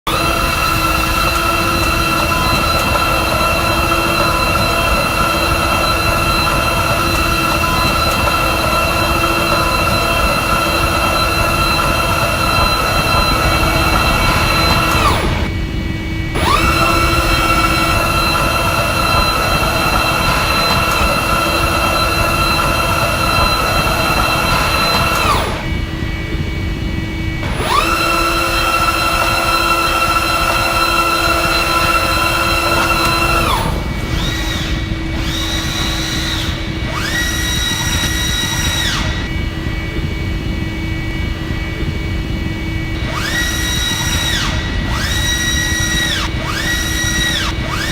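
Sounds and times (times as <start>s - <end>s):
low machine hum: 0.1s - 47.9s
milling machine high-pitched whine: 0.1s - 47.9s.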